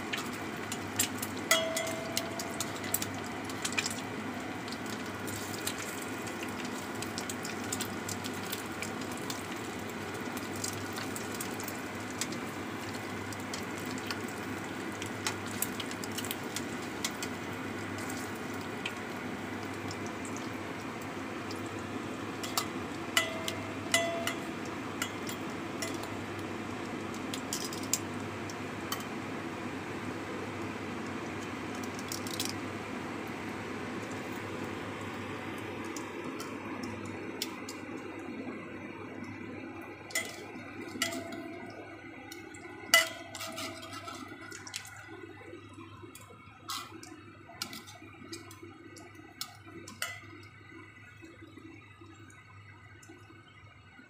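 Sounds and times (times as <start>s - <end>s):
food sizzling in hot oil: 0.0s - 52.3s.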